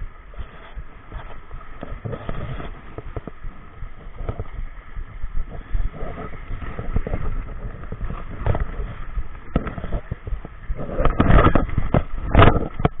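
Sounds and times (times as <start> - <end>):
small waves splashing on boulders: 0.0 - 13.0
wind on microphone: 0.0 - 13.0
microphone handling knocks and pops: 0.4 - 13.0.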